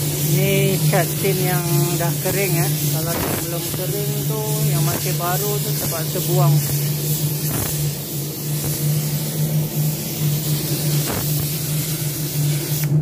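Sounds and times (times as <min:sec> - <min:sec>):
paint spray gun hissing: 0:00.0 - 0:13.0.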